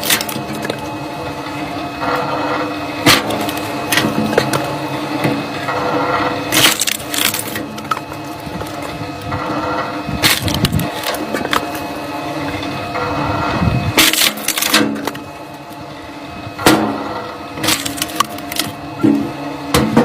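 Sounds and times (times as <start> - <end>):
wood cracking and splintering: 0.0 - 2.1, 3.0 - 5.8, 6.4 - 12.7, 14.0 - 15.8, 16.6 - 20.0
engine-driven machine running: 0.0 - 20.0.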